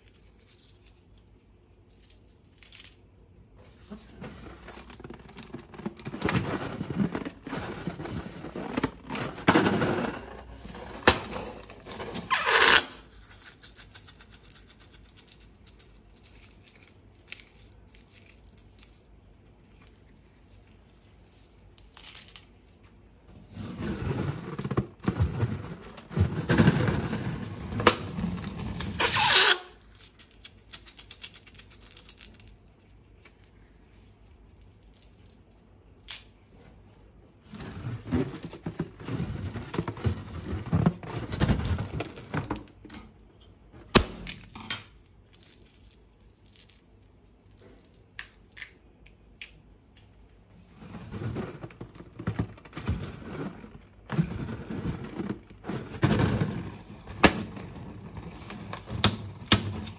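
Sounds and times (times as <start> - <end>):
crackly scraping handling noise: 3.6 - 48.7, 50.5 - 59.9.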